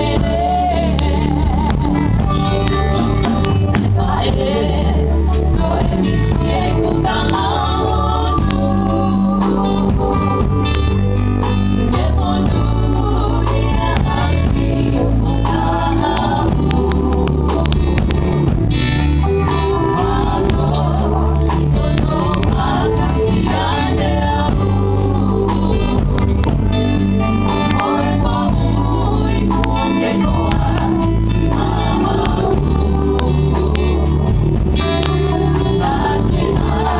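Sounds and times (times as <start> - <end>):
gospel group singing: 0.0 - 36.9
guitar: 0.0 - 36.9
steady bass: 0.0 - 36.9.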